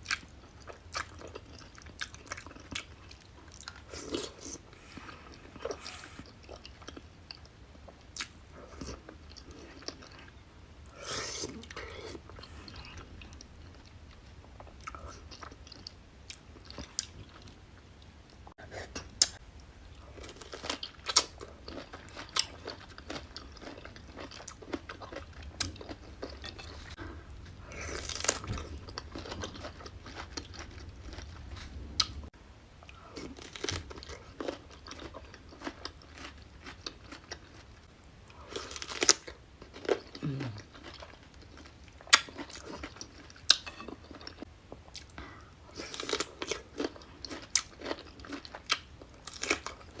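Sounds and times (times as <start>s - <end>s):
chewing and crunching: 0.0s - 17.6s, 18.3s - 50.0s.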